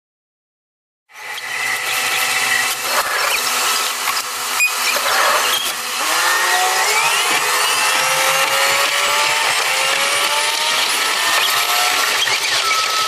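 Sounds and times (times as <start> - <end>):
high-pitched mechanical whirr: 1.1 - 13.0
rising whines: 1.1 - 13.0.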